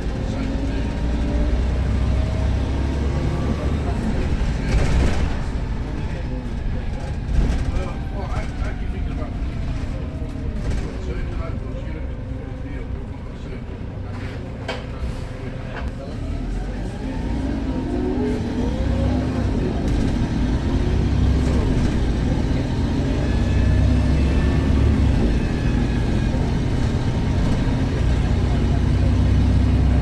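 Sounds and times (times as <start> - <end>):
bus diesel engine accelerating: 0.0 - 30.0.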